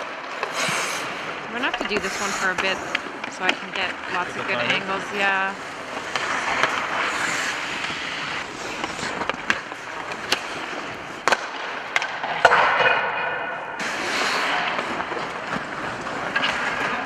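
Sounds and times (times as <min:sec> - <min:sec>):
skate blades scraping ice: 0:00.0 - 0:17.0
sticks striking pucks: 0:00.0 - 0:17.0.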